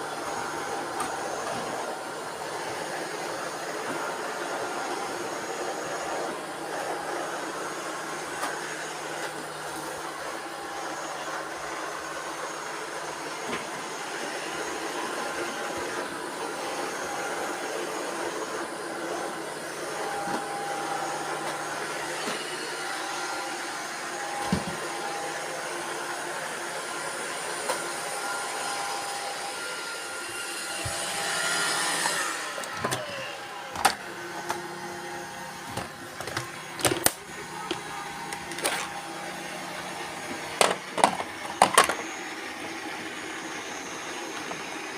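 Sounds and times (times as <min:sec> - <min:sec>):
robot vacuum cleaners whirring: 0:00.0 - 0:44.9.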